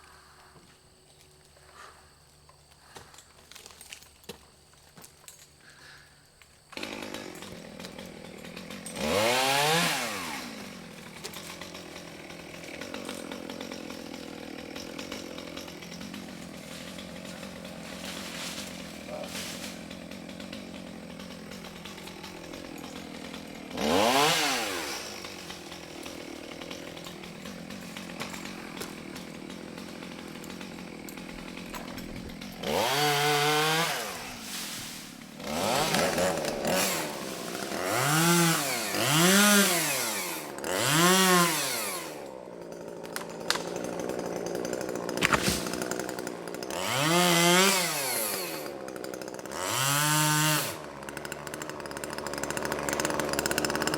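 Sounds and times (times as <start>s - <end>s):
chainsaw idling and revving: 6.6s - 53.9s.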